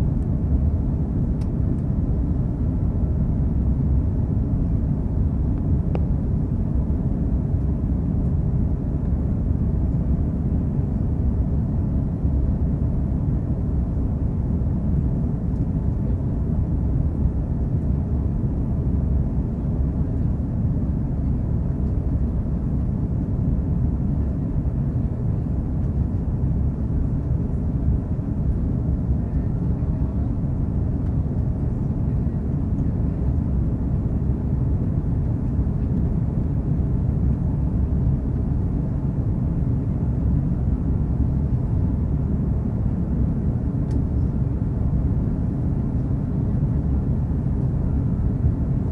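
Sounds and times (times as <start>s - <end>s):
faint steady whine: 0.0s - 48.9s
jet engine rumble in cabin: 0.0s - 48.9s.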